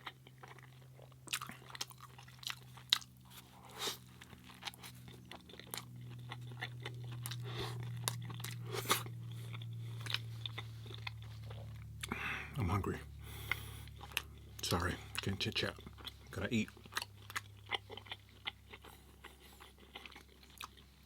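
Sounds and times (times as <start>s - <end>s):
close chewing and biting: 0.0s - 12.5s, 13.3s - 21.0s
steady low hum: 0.0s - 21.0s.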